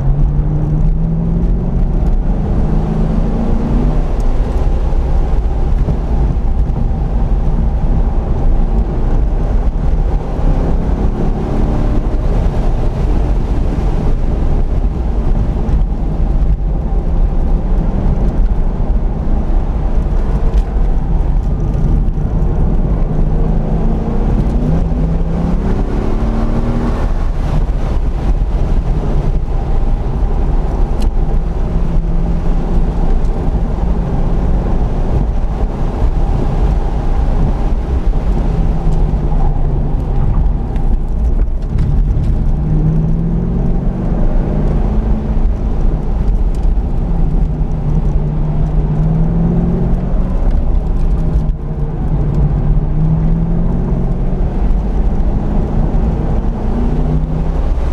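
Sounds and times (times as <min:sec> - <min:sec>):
car engine accelerating: 0:00.0 - 0:57.9
road and wind noise: 0:00.0 - 0:57.9.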